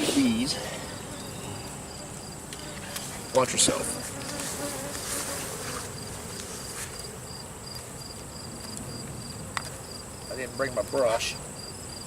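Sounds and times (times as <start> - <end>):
bees buzzing: 0.0 - 10.3.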